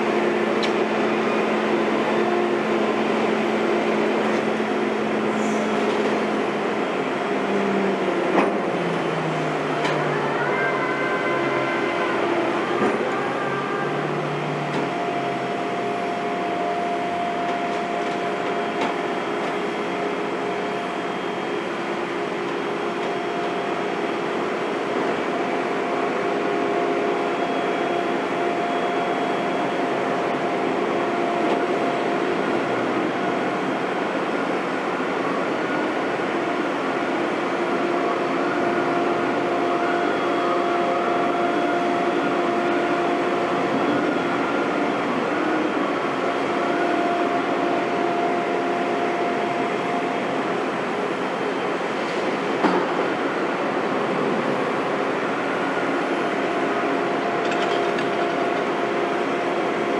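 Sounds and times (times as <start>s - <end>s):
heavy construction machinery running: 0.0s - 59.9s.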